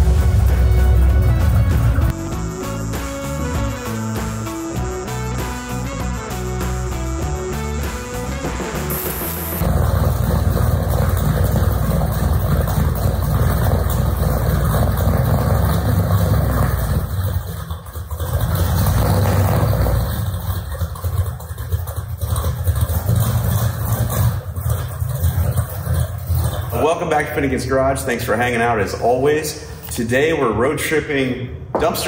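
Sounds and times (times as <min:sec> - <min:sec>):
loud car engine throbbing: 0:00.0 - 0:28.5.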